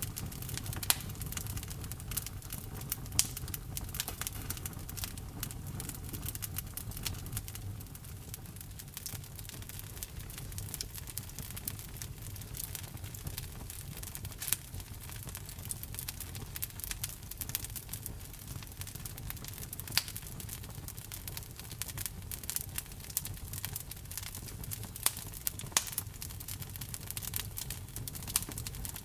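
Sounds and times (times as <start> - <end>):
sharp pops of fire: 0.0 - 29.0
wood fire crackling: 0.0 - 29.0.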